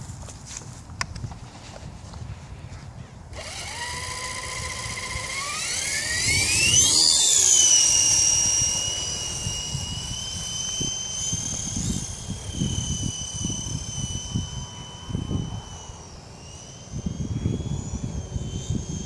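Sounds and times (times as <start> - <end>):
wind rumbling on microphone: 0.0 - 19.0
rc helicopter motor whining: 3.3 - 19.0.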